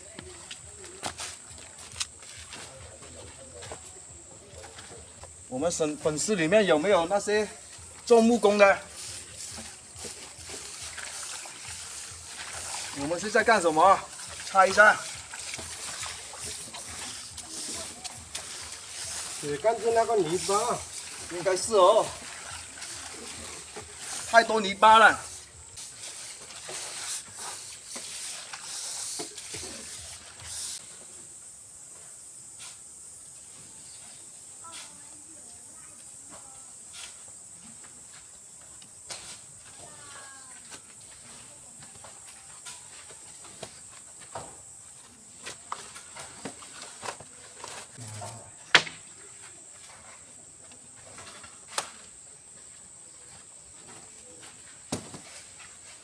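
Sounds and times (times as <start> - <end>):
steady high hiss: 0.0 - 56.0.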